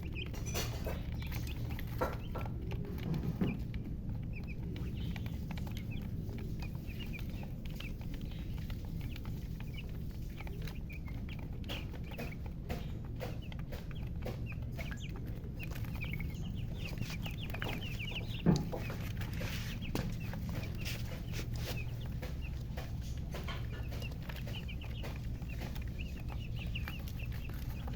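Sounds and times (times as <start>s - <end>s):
chicks cheeping: 0.0s - 27.9s.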